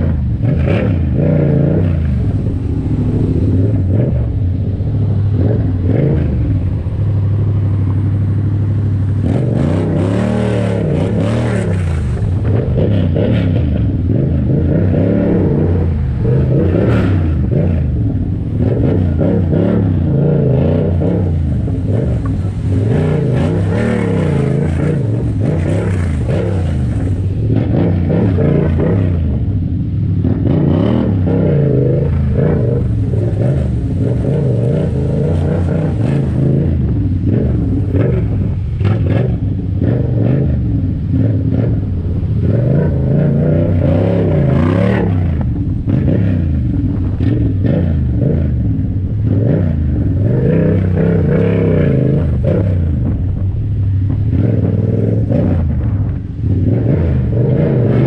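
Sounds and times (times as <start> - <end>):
motorcycle engine revving: 0.0 - 58.0
road noise: 0.0 - 58.0.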